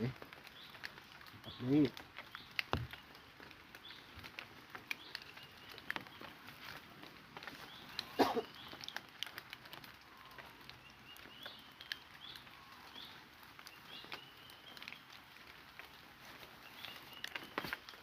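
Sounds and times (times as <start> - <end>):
birds chirping: 0.0 - 18.0
rustling: 0.1 - 18.0.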